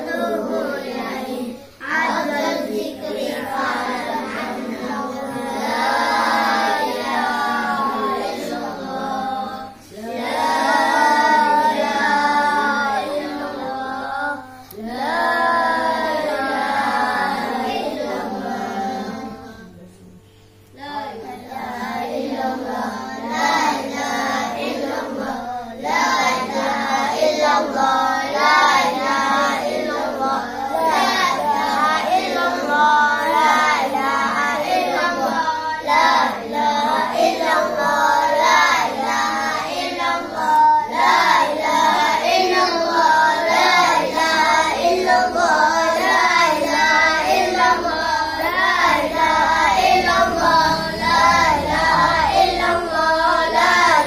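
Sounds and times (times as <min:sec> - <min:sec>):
children chanting in melody: 0:00.0 - 0:54.0.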